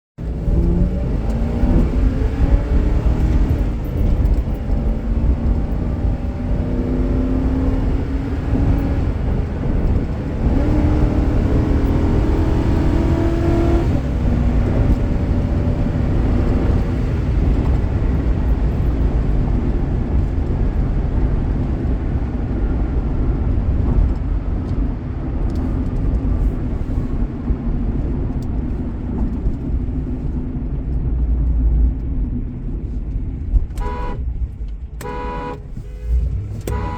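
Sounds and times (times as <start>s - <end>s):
car engine accelerating: 0.2s - 30.4s, 31.1s - 36.9s
low road rumble: 0.2s - 36.9s.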